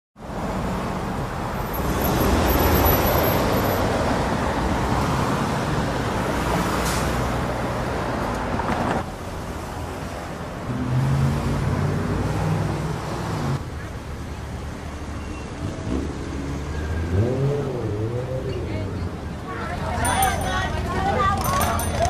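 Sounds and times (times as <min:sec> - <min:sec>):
passing cars: 0:00.2 - 0:22.0.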